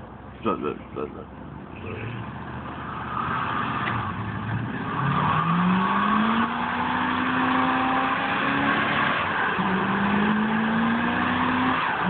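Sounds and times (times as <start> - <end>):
truck engine revving: 1.7 - 12.0.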